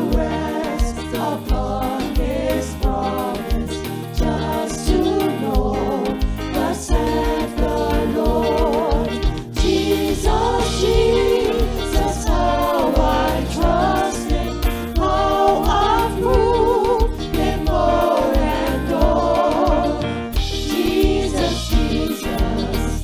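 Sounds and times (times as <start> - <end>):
drum kit: 0.0 - 23.0
electric bass: 0.0 - 23.0
keyboard: 0.0 - 23.0
women singing hymn in harmony: 0.0 - 23.0.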